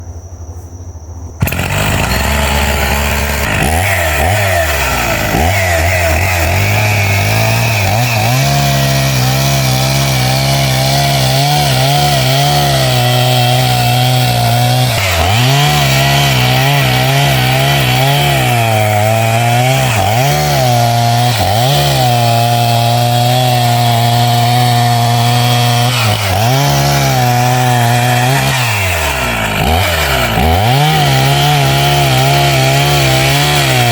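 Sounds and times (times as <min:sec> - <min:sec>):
chainsaw cutting wood: 0:01.4 - 0:33.9.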